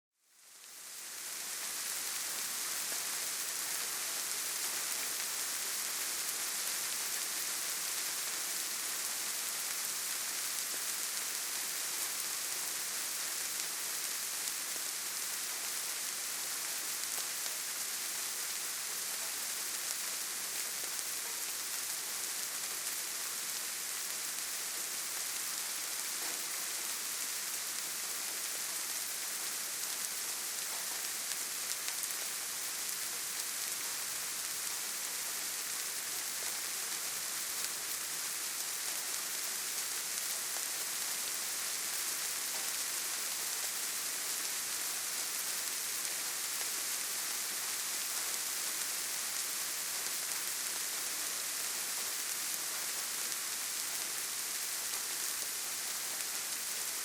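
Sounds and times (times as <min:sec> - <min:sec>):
light rain pattering on leaves: 0:00.3 - 0:57.0.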